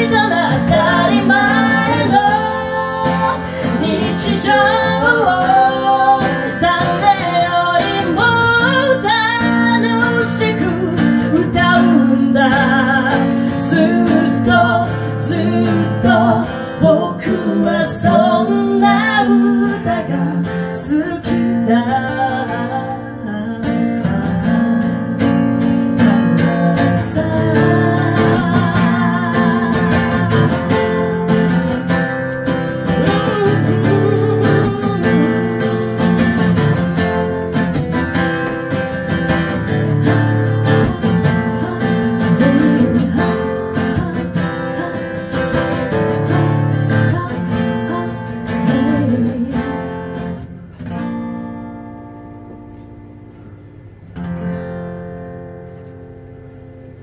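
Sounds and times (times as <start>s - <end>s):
woman singing: 0.0s - 37.3s, 39.5s - 50.5s
acoustic guitar strumming: 0.0s - 57.0s.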